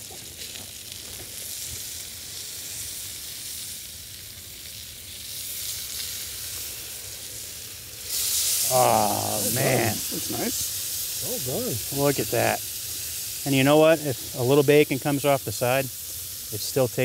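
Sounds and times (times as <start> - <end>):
meat sizzling on griddle: 0.0 - 17.0.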